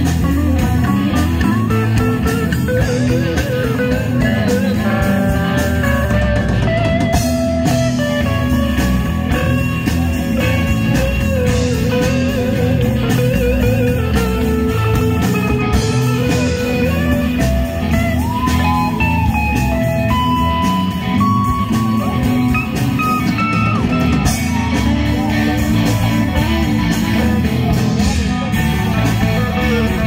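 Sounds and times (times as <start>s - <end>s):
lead guitar bending: 0.0s - 30.0s
live band playing: 0.0s - 30.0s.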